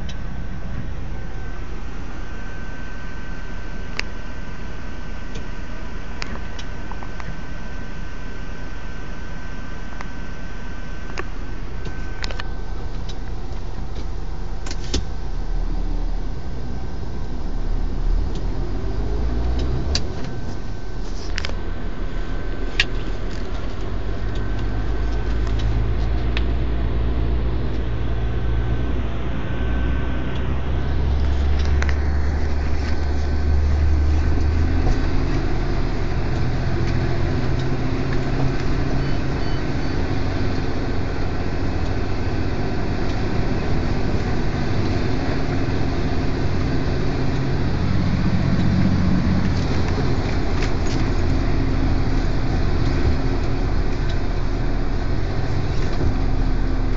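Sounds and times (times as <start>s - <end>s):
diesel truck engine droning: 0.0s - 56.9s.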